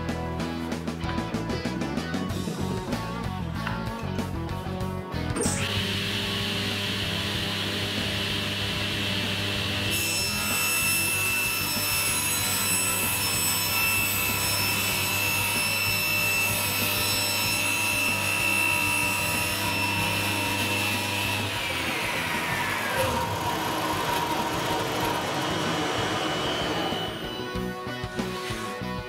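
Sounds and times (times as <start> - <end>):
table saw motor hum: 5.4 - 28.7
saw cutting wood: 5.4 - 28.8.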